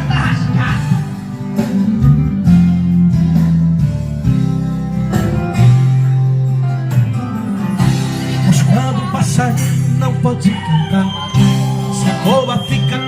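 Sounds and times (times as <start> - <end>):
guitar instrumental music: 0.0 - 13.0.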